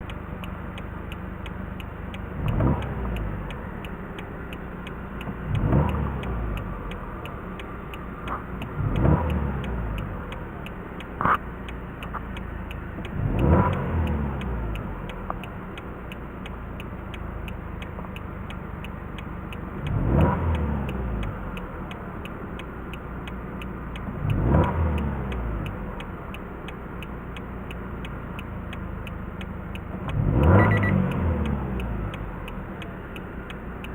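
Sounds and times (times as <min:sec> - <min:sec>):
car engine revving: 0:00.0 - 0:33.9
faint regular ticking: 0:00.0 - 0:33.9.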